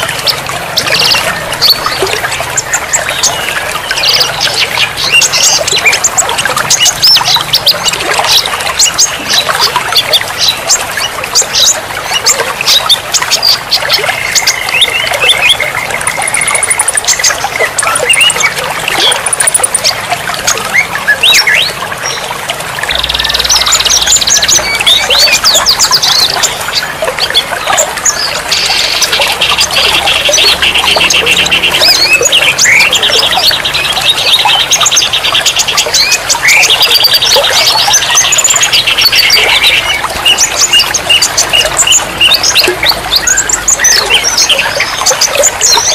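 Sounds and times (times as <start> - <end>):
songbirds calling: 0.0 - 45.9
trickle of running water: 0.0 - 45.9.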